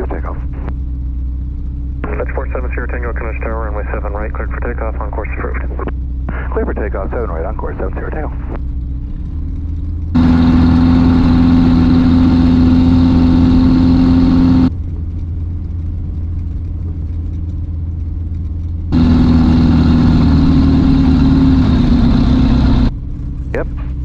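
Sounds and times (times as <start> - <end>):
aircraft engine drone: 0.0 - 24.0
steady hum: 0.0 - 24.0.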